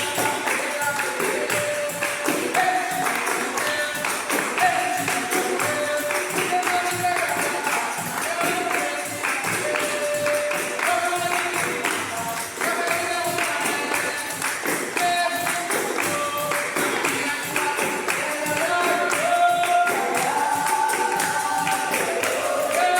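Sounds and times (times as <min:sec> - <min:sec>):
pandeiro rhythm: 0:00.0 - 0:22.9.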